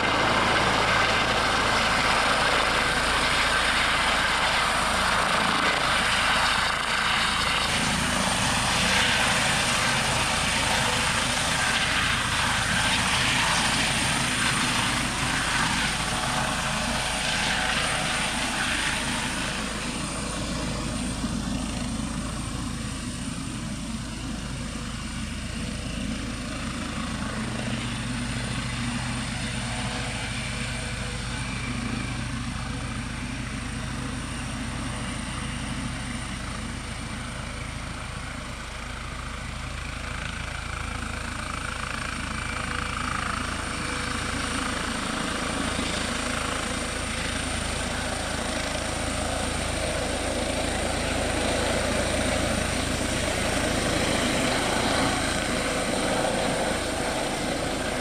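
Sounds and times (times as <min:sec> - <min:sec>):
helicopter rotor thrum: 0:00.0 - 0:58.0.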